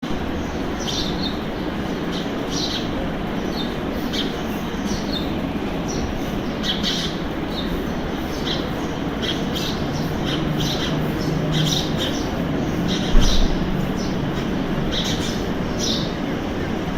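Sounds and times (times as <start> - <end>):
sparrows chirping: 0.0 - 16.9
steady background rumble: 0.0 - 16.9.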